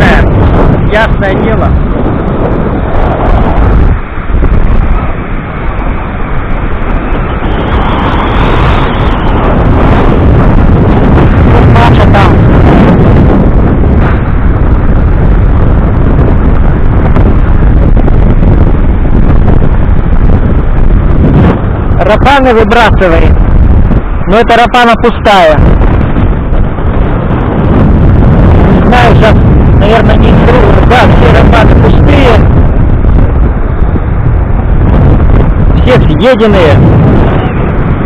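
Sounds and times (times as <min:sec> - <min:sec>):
stormy sea surf: 0:00.0 - 0:38.0
wind buffeting microphone: 0:00.0 - 0:38.0.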